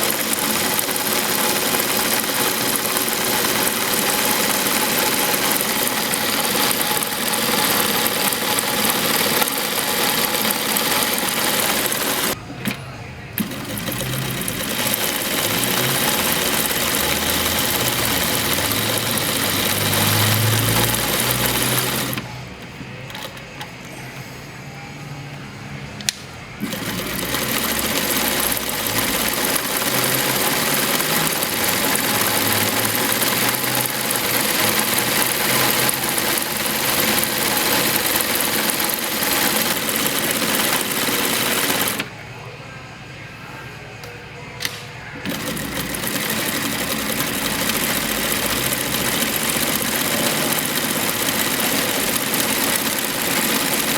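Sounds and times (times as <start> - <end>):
sewing machine running: 0.0 - 12.4, 13.4 - 23.7, 26.6 - 42.1, 45.2 - 53.9.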